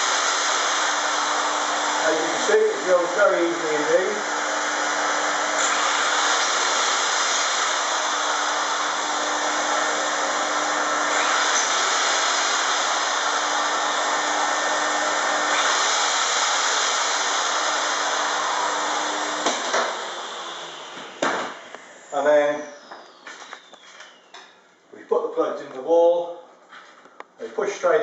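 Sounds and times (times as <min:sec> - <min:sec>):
vacuum cleaner running: 0:00.0 - 0:24.2
electric drill boring holes: 0:00.0 - 0:24.4.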